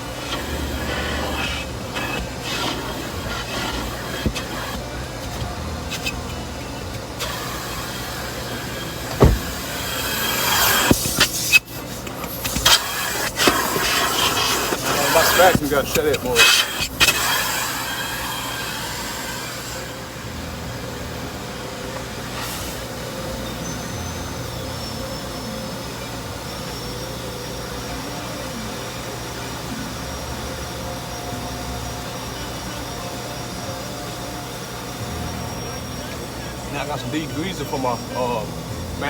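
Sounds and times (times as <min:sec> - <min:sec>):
mechanical drone with faint tones: 0:00.0 - 0:39.0.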